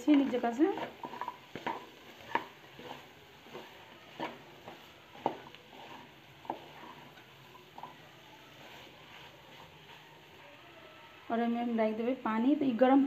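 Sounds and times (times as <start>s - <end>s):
wooden spatula scraping pan: 0.0s - 10.6s.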